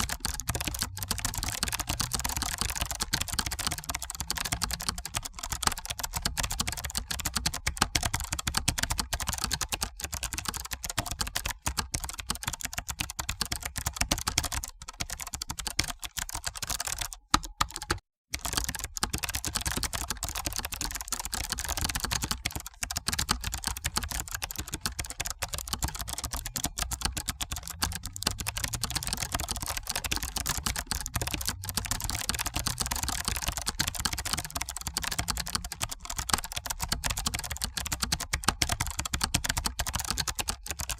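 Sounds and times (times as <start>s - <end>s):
fast typing on computer keyboard: 0.0s - 40.9s.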